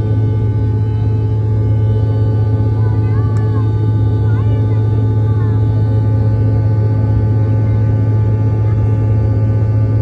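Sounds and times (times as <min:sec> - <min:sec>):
jet engines droning in cabin: 0:00.0 - 0:10.0.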